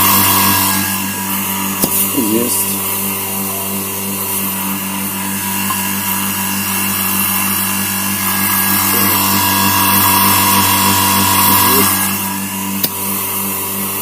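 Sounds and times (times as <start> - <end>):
electric vacuum pump pulsing hum: 0.0 - 14.0.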